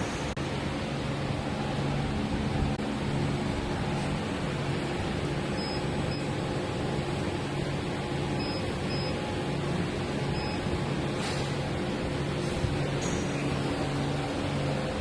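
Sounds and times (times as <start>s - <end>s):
machine hum and hiss: 0.0s - 15.0s.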